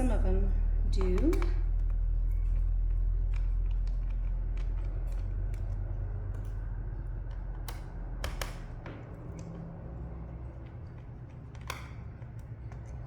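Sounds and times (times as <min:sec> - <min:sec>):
steady low hum: 0:00.0 - 0:13.0
screwdriver clicks and creaks: 0:01.0 - 0:09.6, 0:10.6 - 0:13.0.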